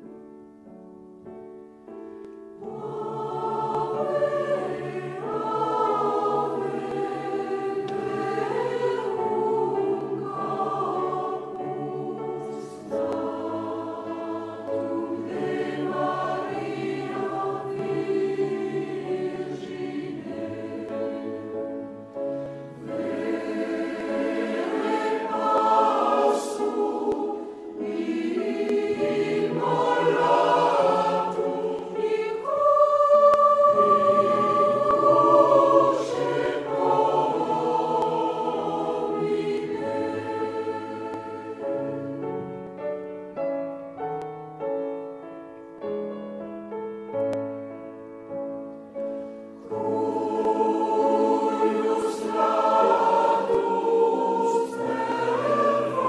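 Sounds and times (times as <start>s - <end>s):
choir singing: 2.6s - 43.0s, 49.1s - 56.0s.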